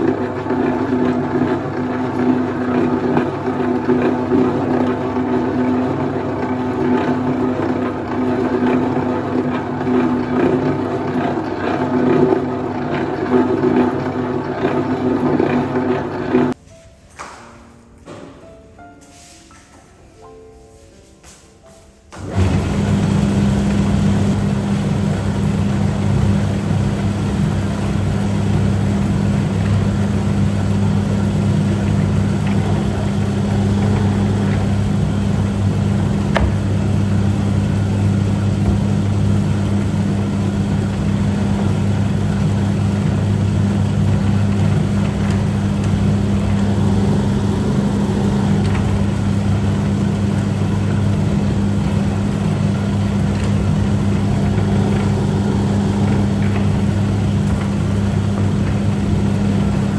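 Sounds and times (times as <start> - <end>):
machine motor humming: 0.0 - 16.6, 22.1 - 59.9.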